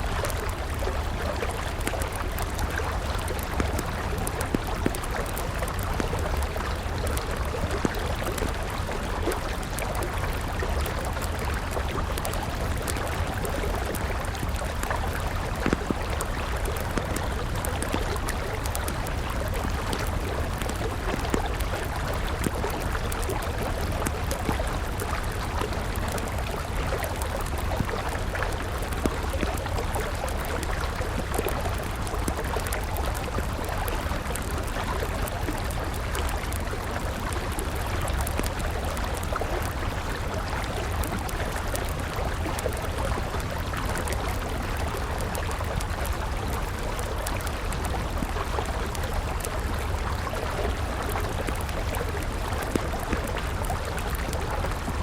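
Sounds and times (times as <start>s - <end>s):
campfire crackling and popping: 0.0s - 55.0s
river flowing: 0.0s - 55.0s.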